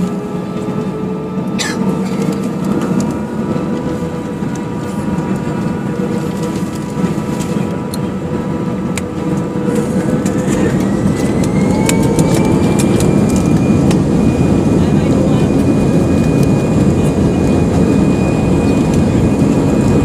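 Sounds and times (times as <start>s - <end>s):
jet engine whine rising: 0.0s - 20.0s
jet engines rumbling in cabin: 0.0s - 20.0s.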